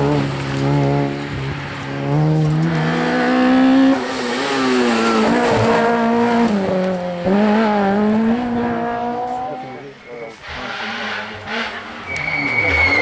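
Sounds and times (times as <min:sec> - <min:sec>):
rally car engines revving: 0:00.0 - 0:13.0.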